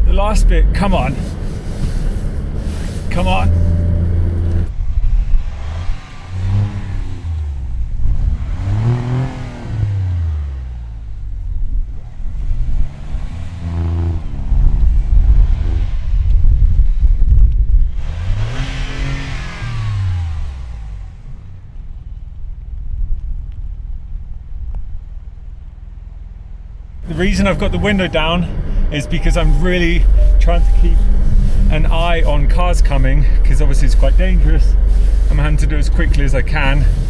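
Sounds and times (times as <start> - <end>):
car engine revving: 0.0 - 21.9, 27.0 - 37.0.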